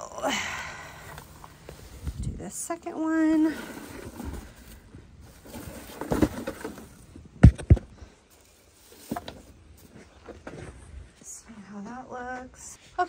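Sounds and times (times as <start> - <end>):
rustling and handling noise: 1.0 - 11.6.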